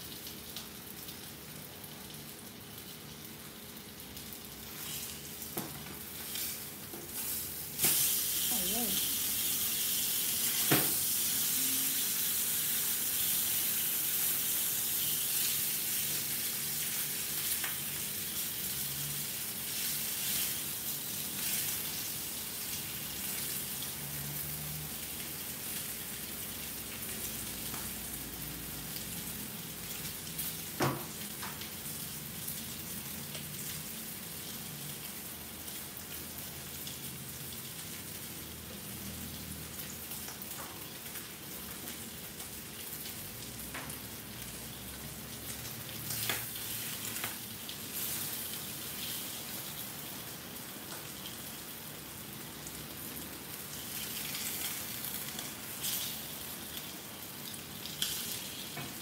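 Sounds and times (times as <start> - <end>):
fish sizzling in hot oil: 0.0 - 59.0.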